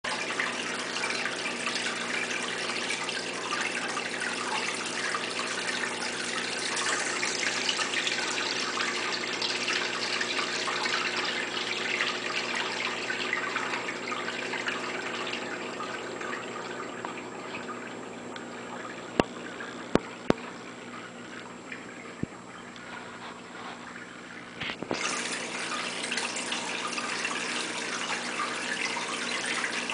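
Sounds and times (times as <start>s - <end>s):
water splashing and gurgling: 0.1s - 29.9s.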